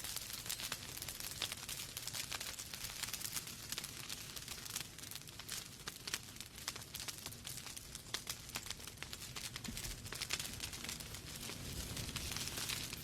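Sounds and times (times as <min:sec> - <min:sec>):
fire crackling and popping: 0:00.0 - 0:13.0
hiss of burning logs: 0:00.0 - 0:13.0.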